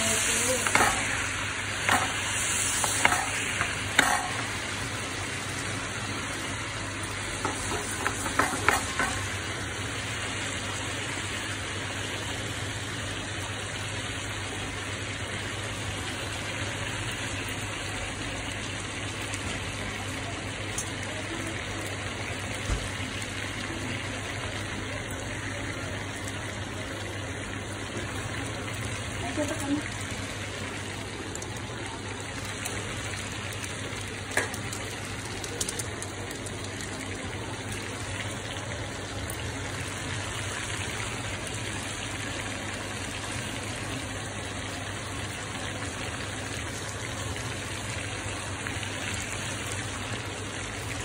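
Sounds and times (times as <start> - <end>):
seafood sizzling in oil: 0.0 - 51.0.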